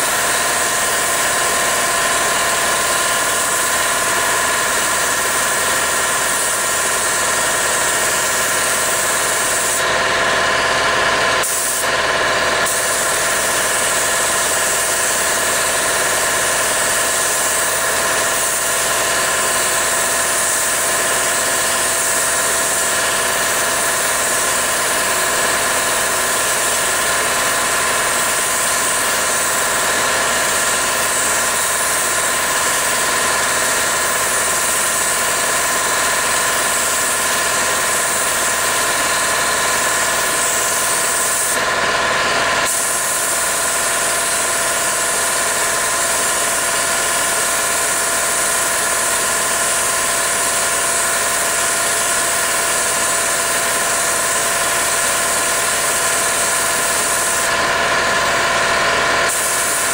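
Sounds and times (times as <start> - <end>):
air compressor humming: 0.0 - 59.9
air spray gun hissing: 0.0 - 59.9.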